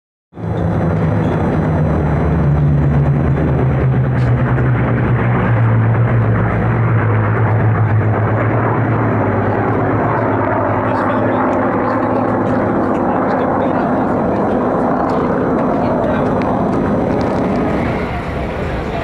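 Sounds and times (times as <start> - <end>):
radial aircraft engines droning: 0.4 - 19.0.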